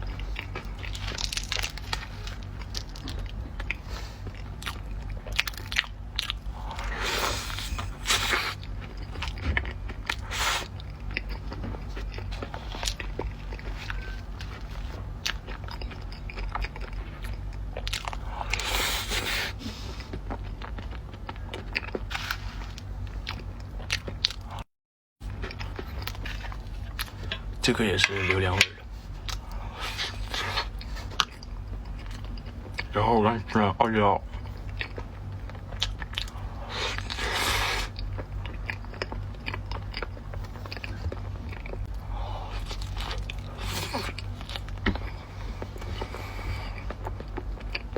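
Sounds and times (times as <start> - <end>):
crunchy cake chewing: 0.0 - 24.6, 25.2 - 47.9.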